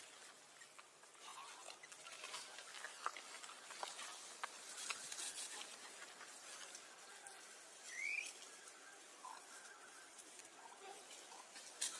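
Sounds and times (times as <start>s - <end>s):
dry leaves crackling and rustling: 0.0s - 11.9s.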